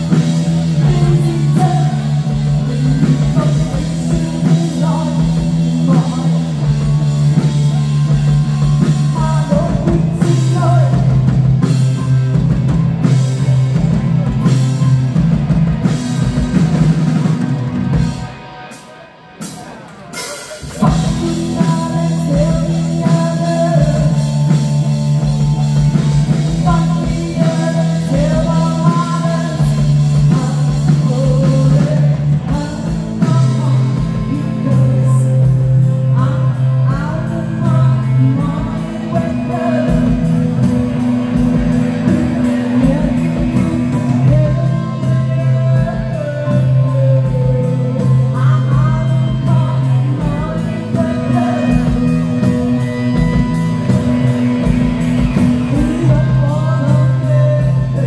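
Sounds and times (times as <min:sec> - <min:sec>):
woman singing: 0:00.0 - 0:11.6, 0:20.8 - 0:58.0
bass guitar: 0:00.0 - 0:58.0
drums: 0:00.0 - 0:58.0
electric guitar: 0:00.0 - 0:58.0.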